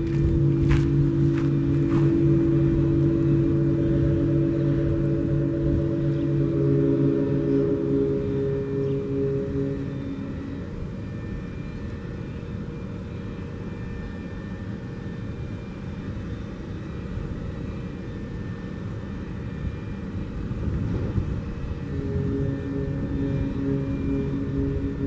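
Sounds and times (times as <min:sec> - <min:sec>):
low rumbling drone: 0:00.0 - 0:25.0
warning siren chord: 0:00.0 - 0:25.0.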